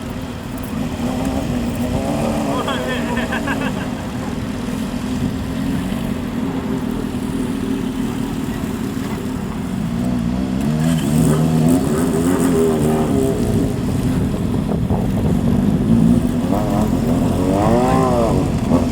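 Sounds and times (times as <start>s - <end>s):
motorcycle engines running: 0.0s - 18.9s
motorcycle exhaust revving: 0.0s - 18.9s.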